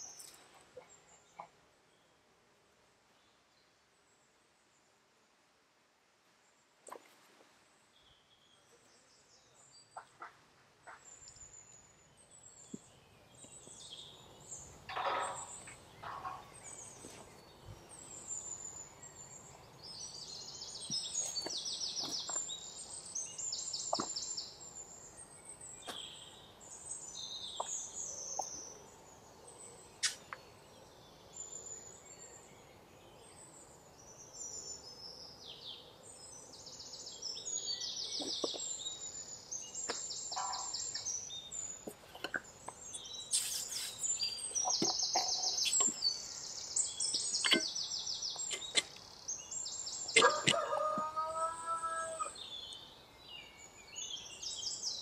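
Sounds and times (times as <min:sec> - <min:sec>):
small birds chirping and trilling: 0:00.0 - 0:02.4, 0:06.5 - 0:55.0.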